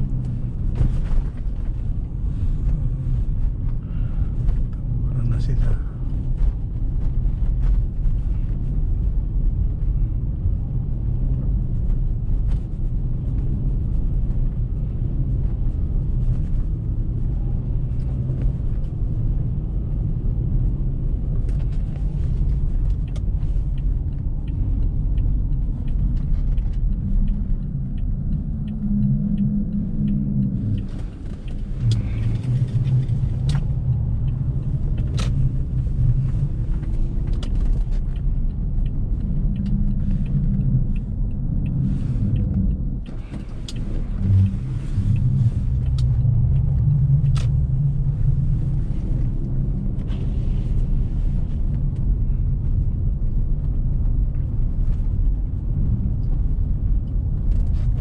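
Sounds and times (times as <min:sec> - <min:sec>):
car driving through snow: 0:00.0 - 0:58.0.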